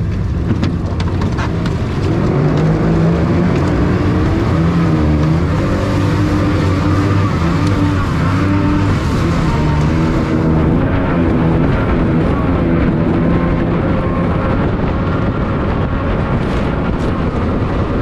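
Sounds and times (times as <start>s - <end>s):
outboard motors revving hard: 0.0s - 18.0s.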